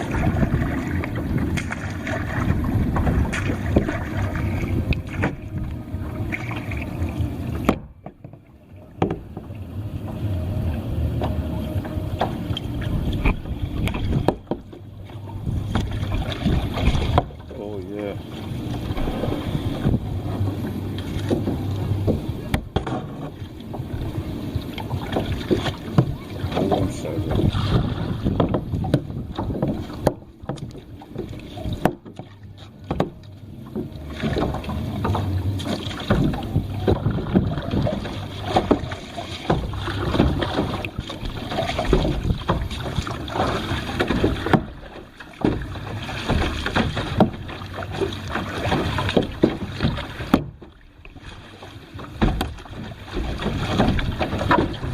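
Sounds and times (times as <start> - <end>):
wind buffeting microphone: 0.0 - 8.1, 9.2 - 32.1, 33.0 - 50.7
paddle splashing in water: 0.0 - 54.9.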